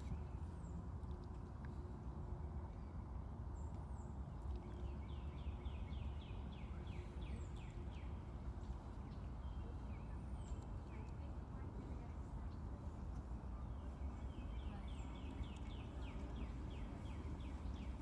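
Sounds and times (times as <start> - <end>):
outdoor hum: 0.0 - 18.0
small birds calling: 3.6 - 18.0.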